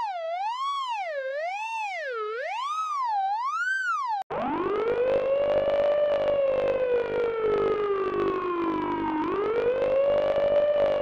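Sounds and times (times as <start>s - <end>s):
police siren wail: 0.0s - 11.0s.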